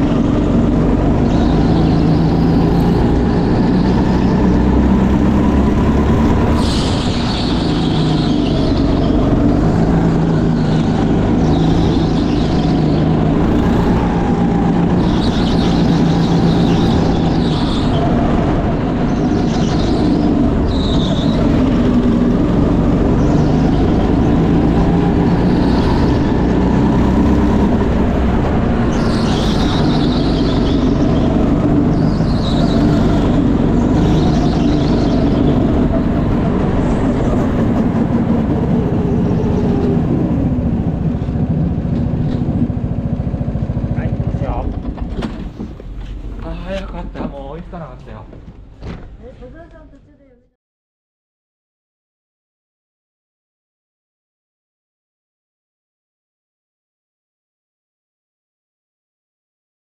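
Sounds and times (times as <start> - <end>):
racing kart engine revving: 0.0 - 48.8.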